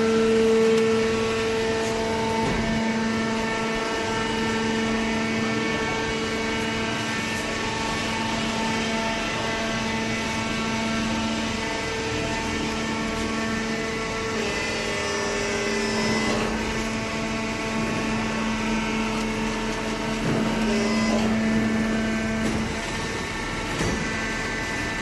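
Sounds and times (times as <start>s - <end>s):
hydraulic pump hum and whine: 0.0s - 25.0s.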